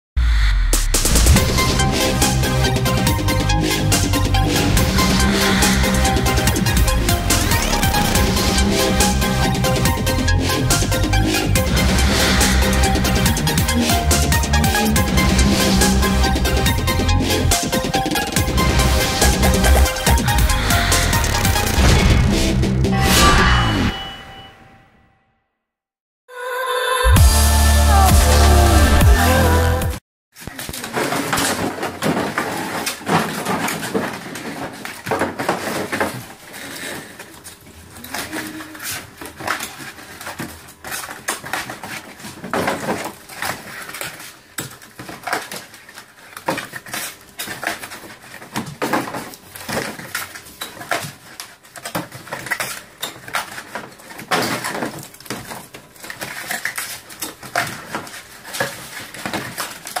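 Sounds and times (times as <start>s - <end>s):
cardboard folding and stacking: 2.9s - 22.3s, 30.4s - 60.0s.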